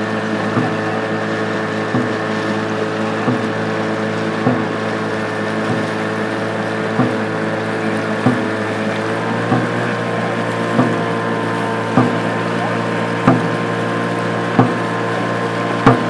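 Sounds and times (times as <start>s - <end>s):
boat engine drone: 0.0s - 16.0s
drum beats: 0.0s - 16.0s.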